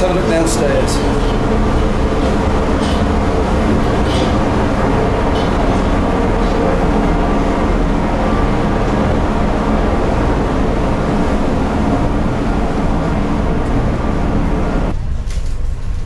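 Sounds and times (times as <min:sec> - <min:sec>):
ship engines droning: 0:00.0 - 0:15.9.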